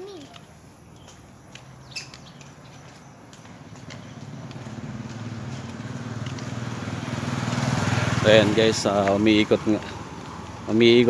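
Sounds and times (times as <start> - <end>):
motorcycle engine approaching: 1.8 - 11.0.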